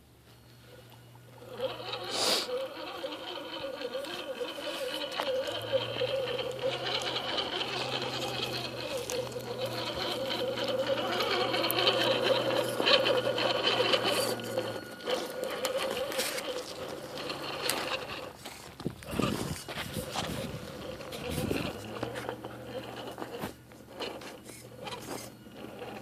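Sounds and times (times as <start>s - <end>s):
small motor running: 0.5s - 26.0s.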